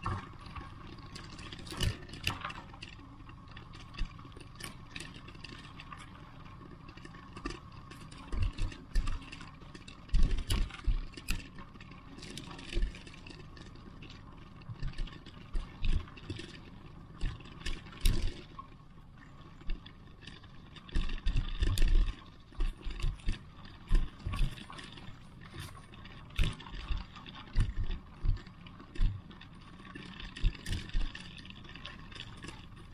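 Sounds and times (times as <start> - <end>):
background hum: 0.0 - 32.9.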